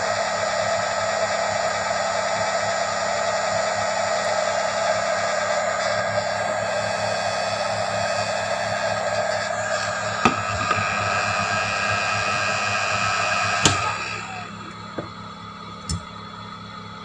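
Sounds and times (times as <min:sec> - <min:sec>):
air blower whining: 0:00.0 - 0:17.0.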